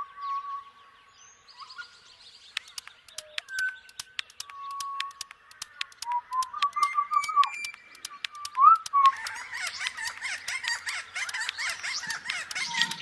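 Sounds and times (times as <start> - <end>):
birds calling and trilling: 0.0 - 13.0
sharp clicks: 2.5 - 13.0.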